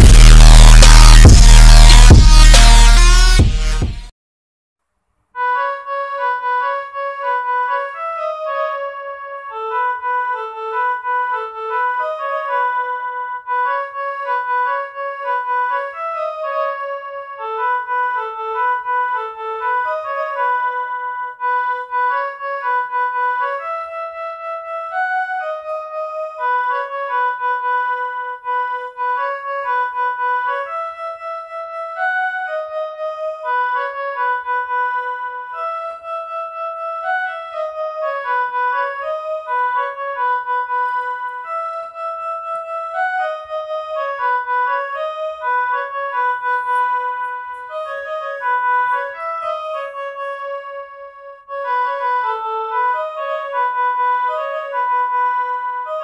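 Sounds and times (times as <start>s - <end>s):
mini keyboard melody: 0.0s - 4.1s, 5.4s - 56.0s.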